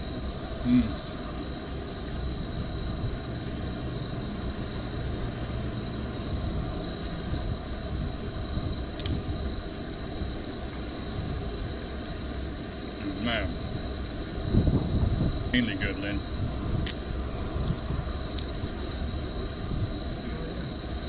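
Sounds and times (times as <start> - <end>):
thin high whine: 0.0 - 21.0
wind buffeting microphone: 0.0 - 21.0.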